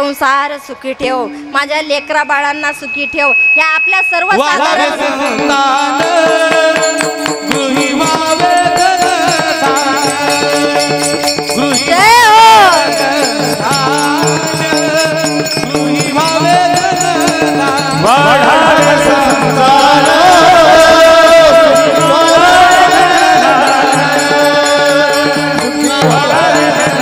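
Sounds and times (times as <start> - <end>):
man singing devotional song: 4.2 - 27.0
small hand cymbals: 5.3 - 27.0.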